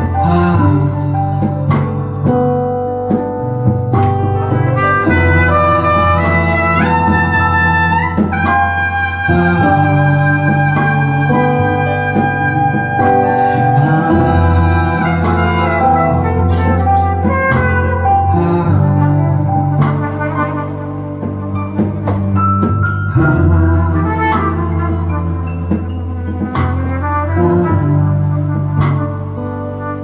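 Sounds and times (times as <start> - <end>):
acoustic guitar: 0.0 - 30.0
electric bass: 0.0 - 30.0
long-held melodic lead line: 0.0 - 30.0.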